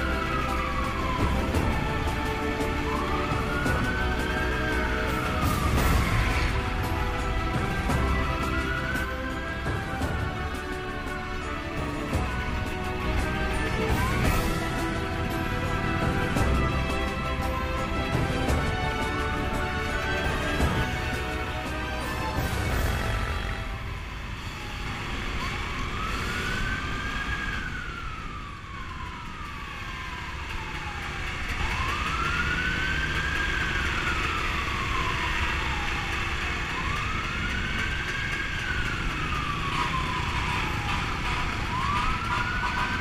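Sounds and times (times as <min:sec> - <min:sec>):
siren wailing: 0:00.0 - 0:43.0
wind: 0:00.0 - 0:43.0.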